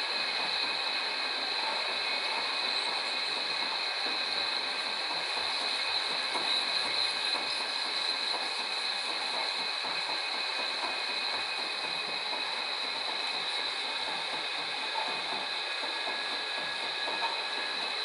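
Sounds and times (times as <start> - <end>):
metal lathe whining: 0.0 - 18.0.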